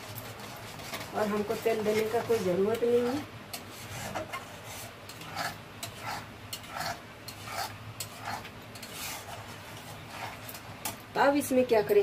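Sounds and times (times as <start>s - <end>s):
metal spatula scraping metal pan: 0.0s - 11.0s
paste frying: 0.0s - 11.6s.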